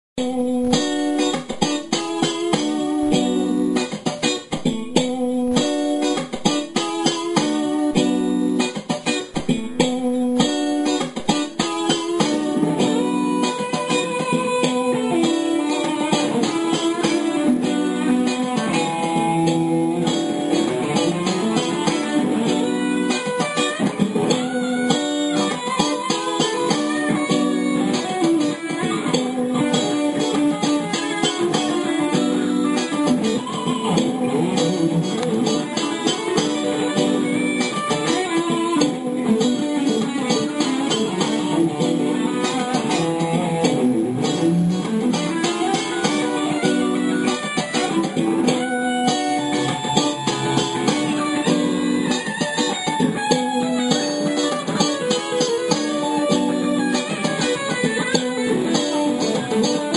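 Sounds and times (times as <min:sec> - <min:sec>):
electric guitar strummed chords: 0:00.2 - 0:59.9
sustained guitar single-note lines: 0:00.2 - 0:59.9.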